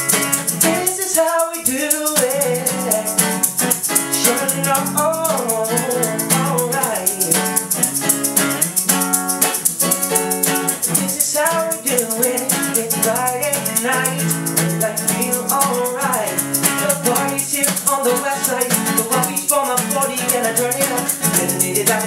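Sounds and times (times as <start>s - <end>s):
acoustic guitar strumming: 0.0s - 22.0s
shaker rhythm: 0.0s - 22.0s
wordless melody line: 0.0s - 22.0s.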